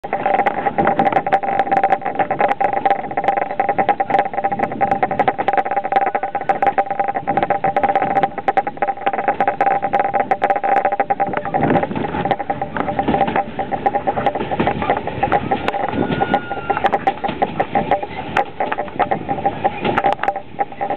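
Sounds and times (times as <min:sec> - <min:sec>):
steady whine: 0:00.0 - 0:20.9
train wheels clicking over rails: 0:00.0 - 0:20.9.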